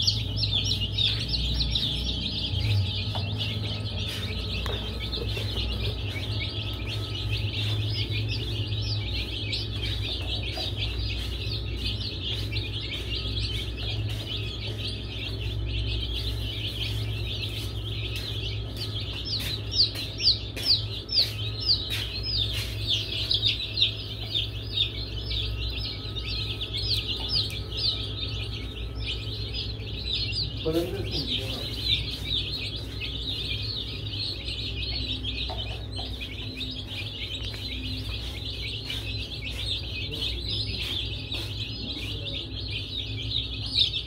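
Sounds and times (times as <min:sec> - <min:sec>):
baby chicks peeping: 0:00.0 - 0:44.0
steady low hum: 0:00.0 - 0:44.0.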